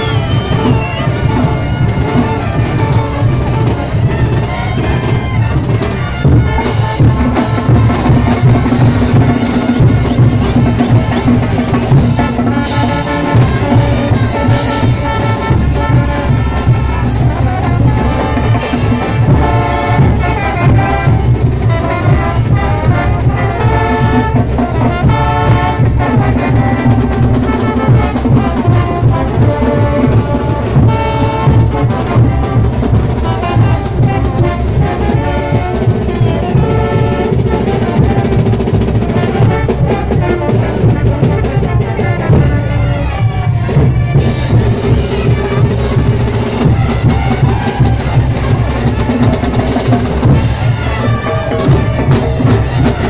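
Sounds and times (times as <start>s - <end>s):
bass drums: 0.0s - 53.0s
cymbals: 0.0s - 53.0s
trumpets and trombones: 0.0s - 53.0s.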